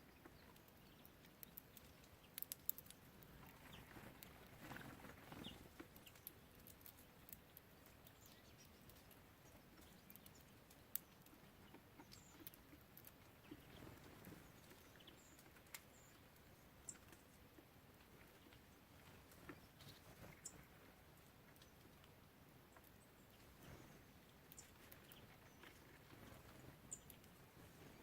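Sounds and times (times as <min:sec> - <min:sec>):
birds pecking and tapping at feeder: 0:00.0 - 0:28.0.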